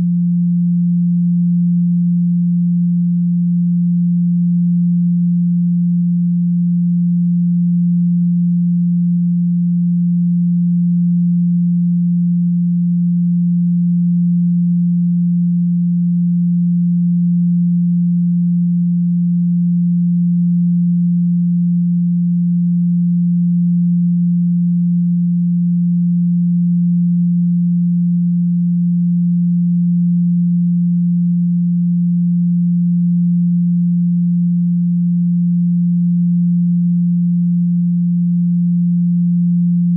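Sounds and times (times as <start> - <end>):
low sine tone: 0.0 - 39.9.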